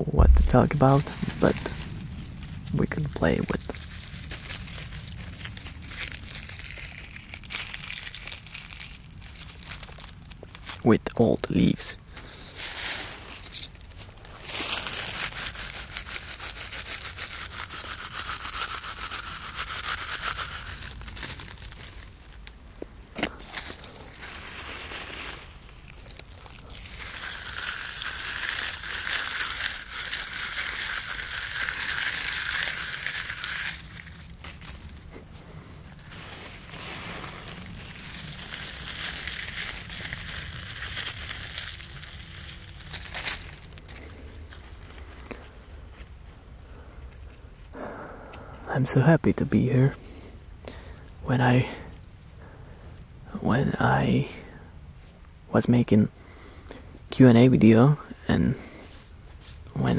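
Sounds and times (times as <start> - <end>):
leaves rustling and crumpling: 0.2 - 48.2, 57.4 - 59.9.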